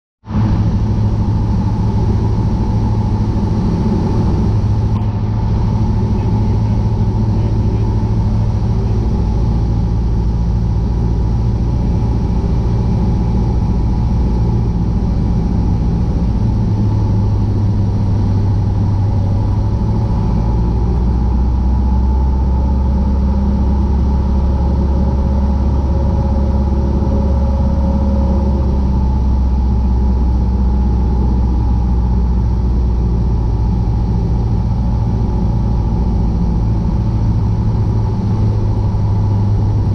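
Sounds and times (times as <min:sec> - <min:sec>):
airplane engine droning in cockpit: 0:00.2 - 0:39.9.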